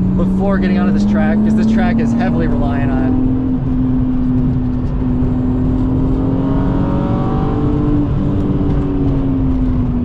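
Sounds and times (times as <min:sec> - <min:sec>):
car engine under throttle: 0:00.0 - 0:10.0
road and tyre noise: 0:00.0 - 0:10.0.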